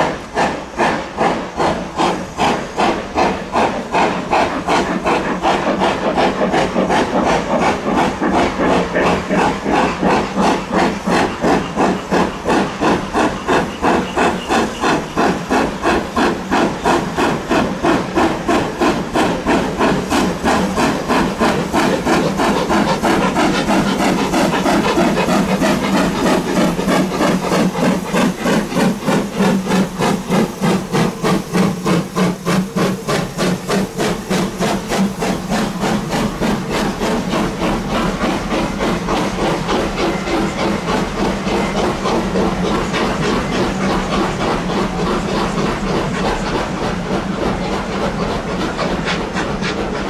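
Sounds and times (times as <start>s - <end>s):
hiss of steam: 0.0s - 50.0s
steam locomotive exhaust chuffs: 0.0s - 50.0s.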